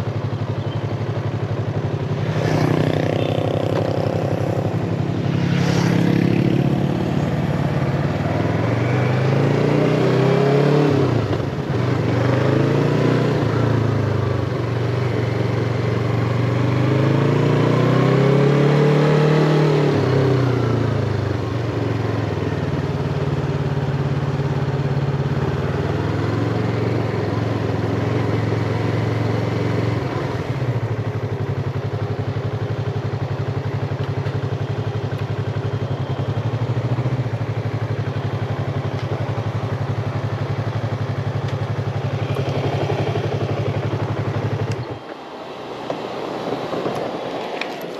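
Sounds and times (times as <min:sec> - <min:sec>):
motorcycle engine revving: 0:00.0 - 0:47.3.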